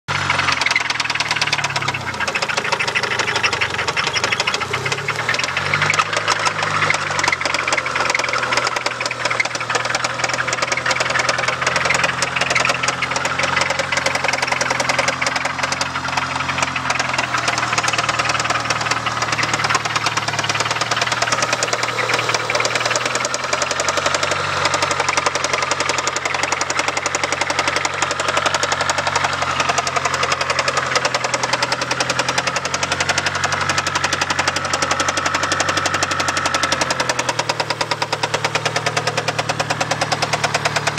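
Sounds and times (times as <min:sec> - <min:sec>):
car engine knocking: 0:00.0 - 0:40.9.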